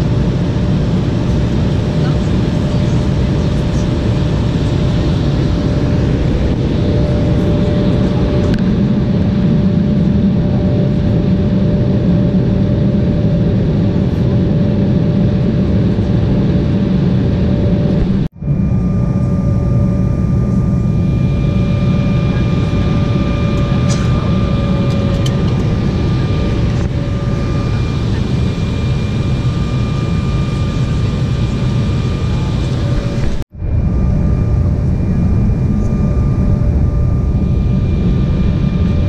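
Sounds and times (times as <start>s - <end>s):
higher steady whine: 0.0s - 39.0s
jet engines and airflow rumble: 0.0s - 39.0s
steady whine: 0.0s - 39.0s.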